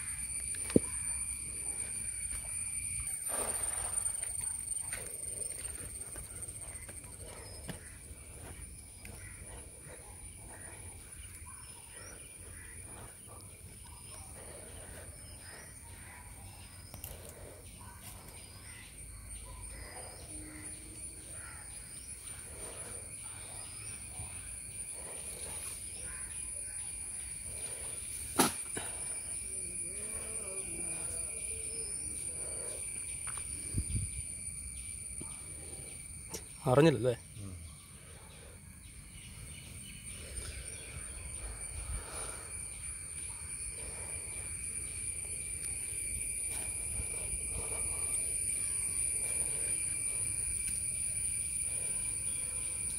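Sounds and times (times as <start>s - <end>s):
high-pitched insect drone: 0.0s - 52.9s.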